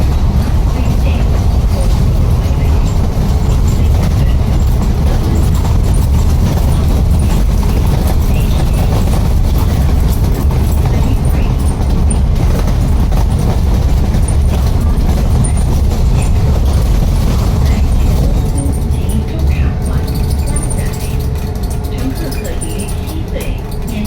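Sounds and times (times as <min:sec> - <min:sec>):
bus engine low rumble: 0:00.0 - 0:24.0.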